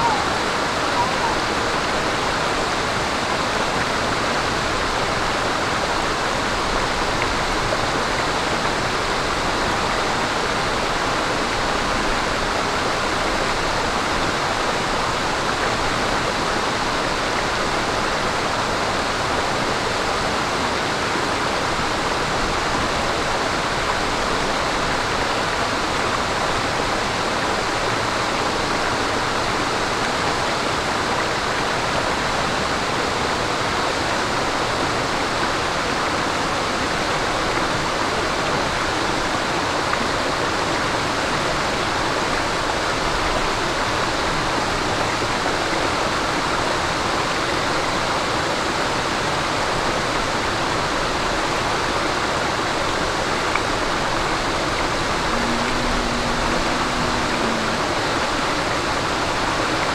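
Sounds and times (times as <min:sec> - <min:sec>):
stream water babbling over rocks: 0:00.0 - 0:59.9.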